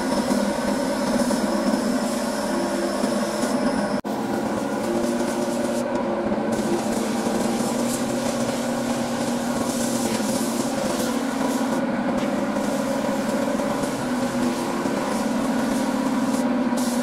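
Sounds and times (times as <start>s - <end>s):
motor hum: 0.0s - 17.0s
spray gun hissing: 0.0s - 17.0s.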